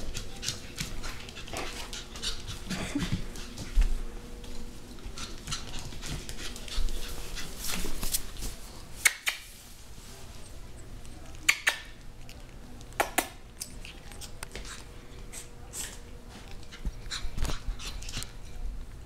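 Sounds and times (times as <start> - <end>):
puppy playing on tiled floor: 0.0 - 19.0.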